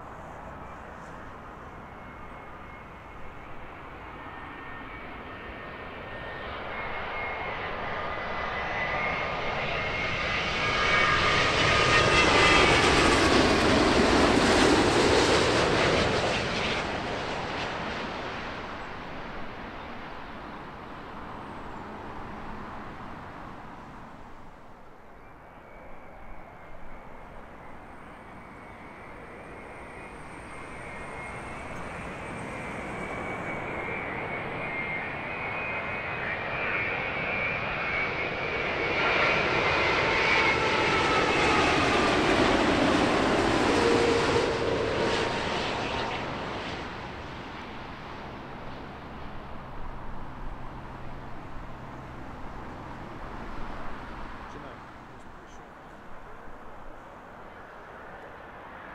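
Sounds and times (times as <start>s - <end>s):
jet airliner engines overhead: 0.0s - 58.9s.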